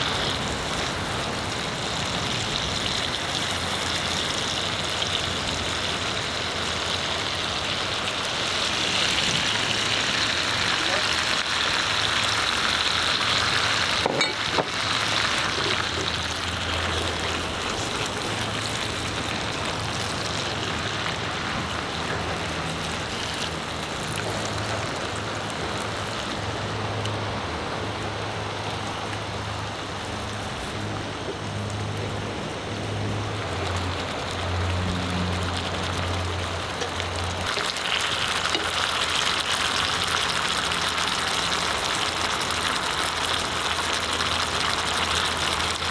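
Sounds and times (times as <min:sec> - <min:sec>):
food sizzling in a frying pan: 0:00.0 - 0:45.9.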